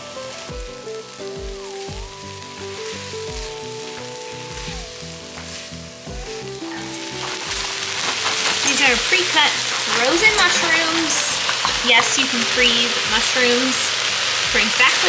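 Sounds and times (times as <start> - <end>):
background music with beat: 0.0 - 13.8
onions sizzling in a pan: 0.0 - 15.0.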